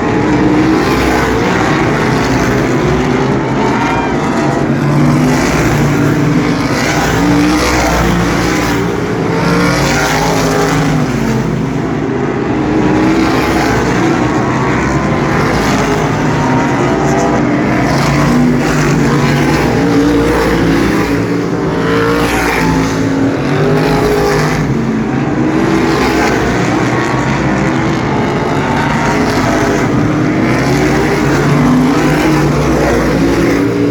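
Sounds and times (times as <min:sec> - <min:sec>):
race car engines: 0:00.0 - 0:33.9.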